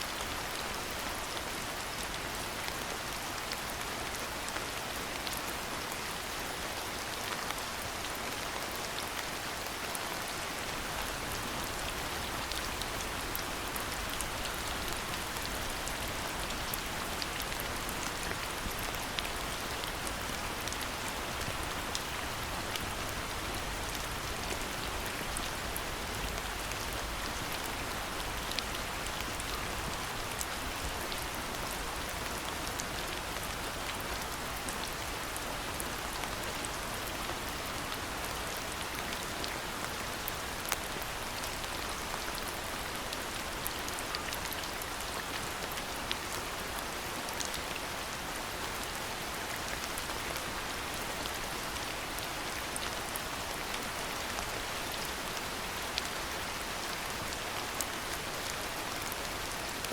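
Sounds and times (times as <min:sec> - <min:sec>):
rain on hard surfaces: 0:00.0 - 0:59.9.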